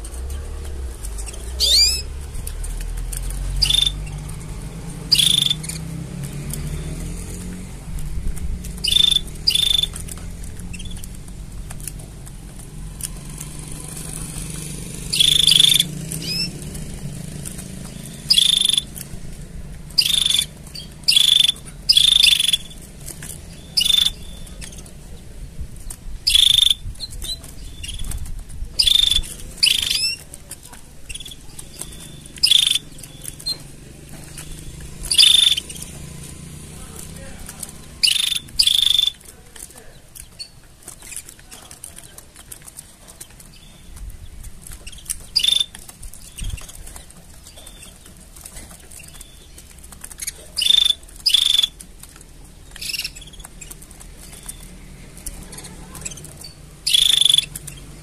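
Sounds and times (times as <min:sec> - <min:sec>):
canaries chirping: 0:00.0 - 0:58.0.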